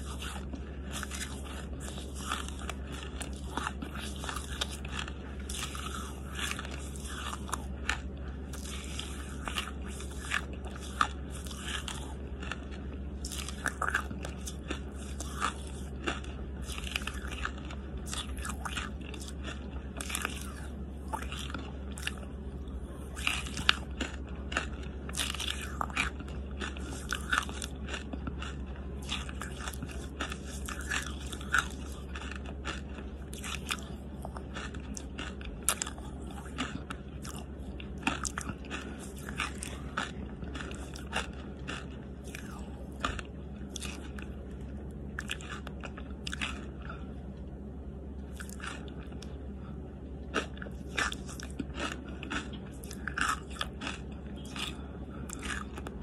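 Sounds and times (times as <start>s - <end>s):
crisp chewing crunches: 0.0s - 47.5s, 48.1s - 56.0s
steady low hum: 0.0s - 56.0s.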